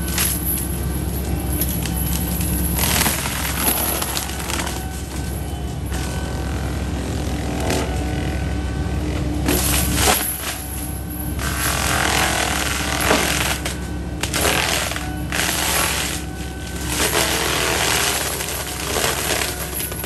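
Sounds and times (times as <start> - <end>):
mulcher crashing and splintering wood: 0.0 - 6.3, 9.4 - 20.0
diesel engine drone: 0.0 - 20.0.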